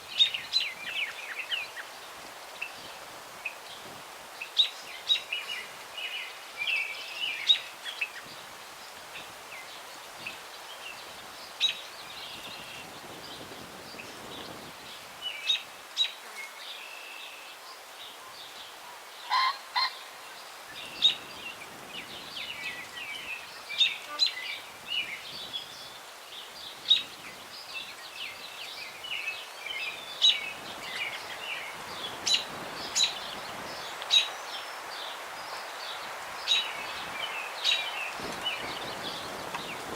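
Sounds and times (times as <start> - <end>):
breeze through tree branches: 0.0 - 39.9.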